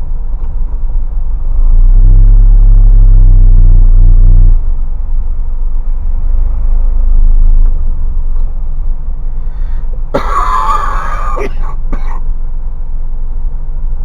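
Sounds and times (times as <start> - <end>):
truck engine rumbling: 0.0 - 12.5.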